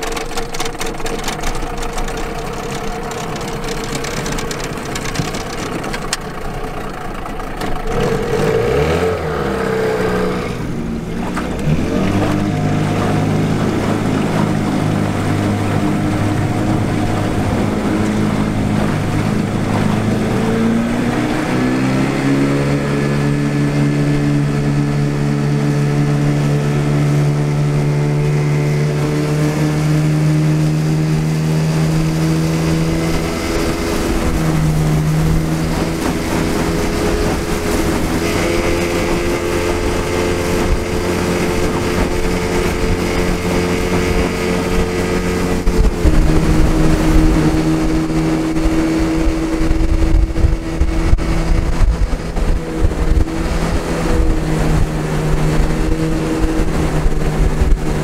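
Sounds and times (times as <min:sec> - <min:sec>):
outboard motor running: 0:00.0 - 0:58.0
wind rumble on microphone: 0:07.9 - 0:58.0.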